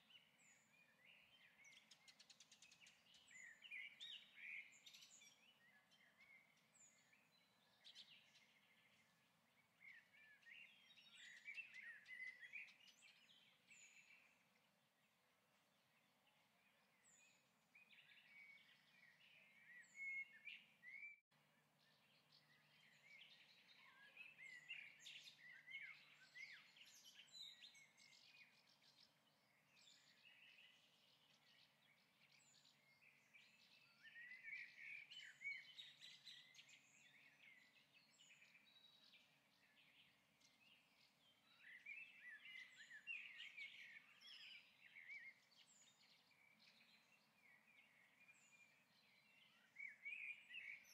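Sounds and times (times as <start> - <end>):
faint bird chirping: 0.0 - 50.9.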